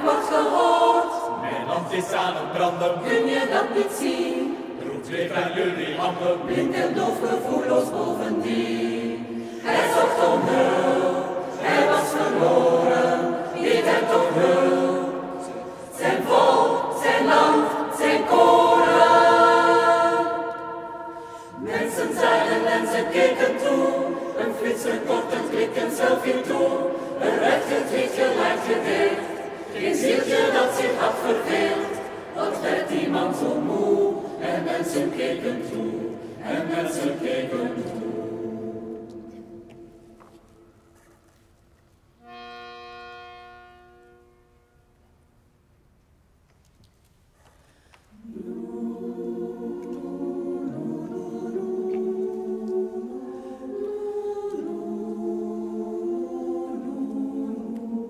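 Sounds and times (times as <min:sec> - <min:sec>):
choir singing unaccompanied: 0:00.0 - 0:40.6, 0:48.1 - 0:58.0.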